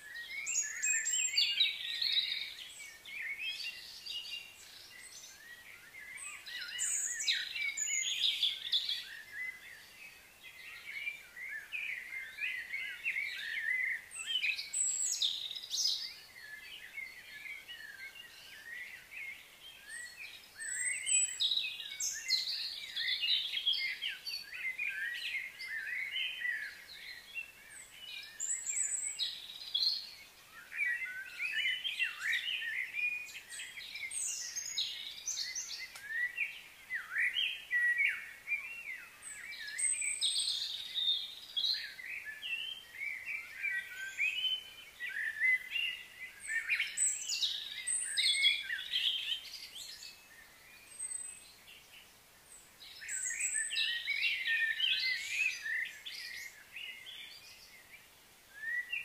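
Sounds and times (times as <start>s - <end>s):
birds chirping and calling: 0.0s - 52.2s, 52.8s - 57.9s.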